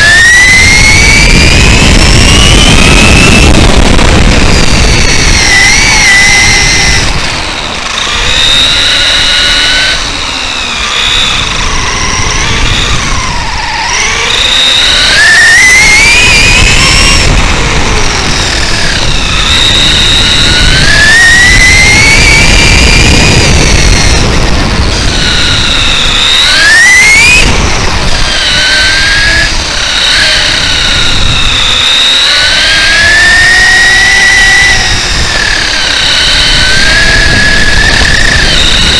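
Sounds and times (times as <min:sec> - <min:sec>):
electric motor whining: 0:00.0 - 0:38.9
wind noise on microphone: 0:00.0 - 0:38.9.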